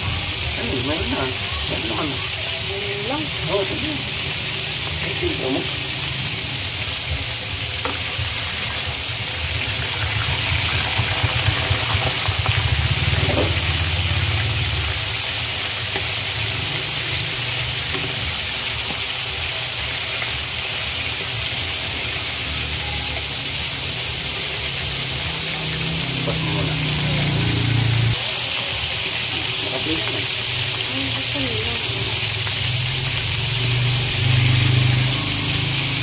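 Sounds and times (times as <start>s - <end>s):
deep-frying sizzle in oil: 0.0s - 36.0s.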